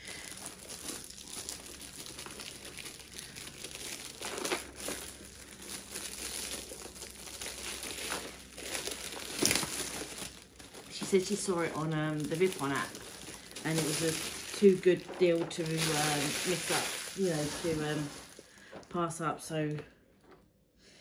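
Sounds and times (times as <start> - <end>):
plastic packaging crinkling: 0.0 - 19.2.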